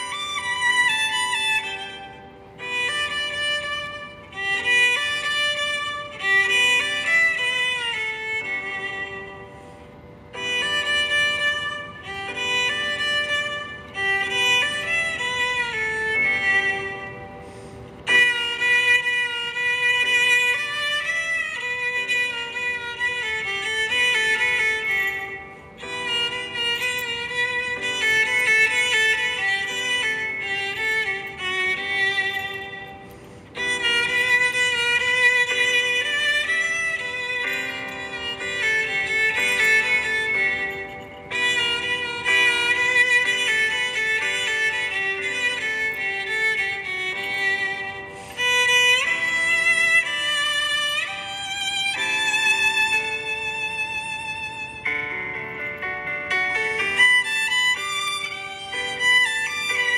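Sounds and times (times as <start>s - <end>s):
instrumental melody: 0.0s - 59.9s.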